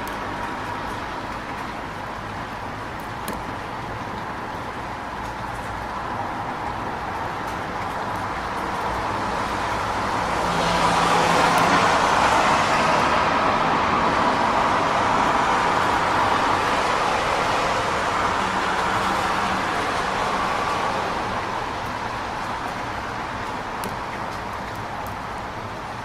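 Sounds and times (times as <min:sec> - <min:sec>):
rain falling: 0:00.0 - 0:26.0
traffic noise: 0:00.0 - 0:26.0
vehicle passing on wet road: 0:00.0 - 0:26.0.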